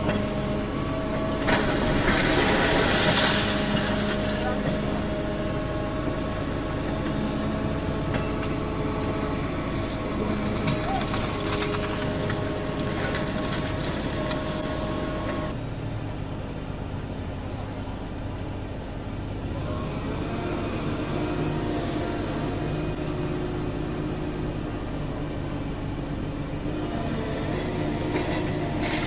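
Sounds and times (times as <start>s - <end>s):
heavy machinery engines: 0.0s - 29.0s.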